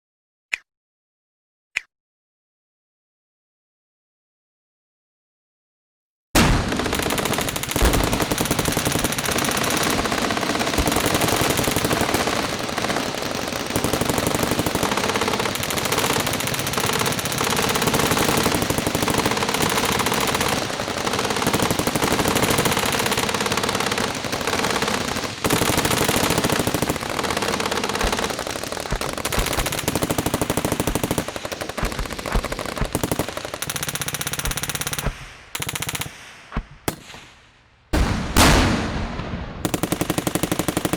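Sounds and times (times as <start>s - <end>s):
automatic machine-gun fire: 6.4s - 36.3s, 38.0s - 40.9s.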